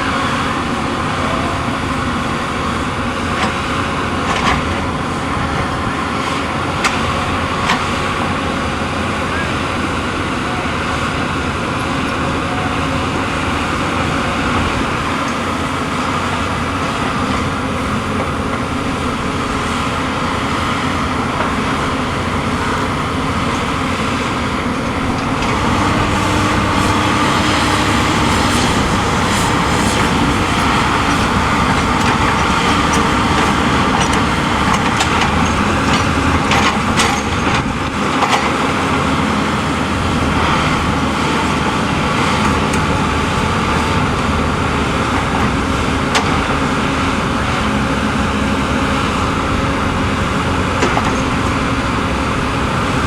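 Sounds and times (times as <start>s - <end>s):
vehicle traffic noise: 0.0s - 53.0s.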